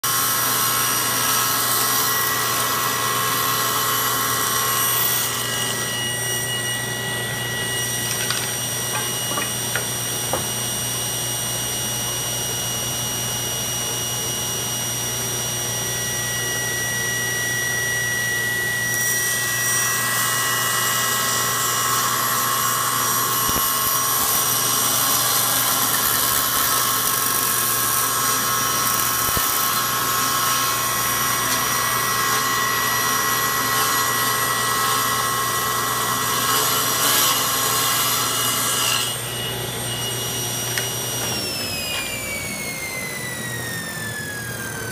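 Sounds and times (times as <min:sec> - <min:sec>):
saw blade cutting wood: 0:00.0 - 0:10.8, 0:18.4 - 0:44.9
table saw running: 0:00.0 - 0:44.9.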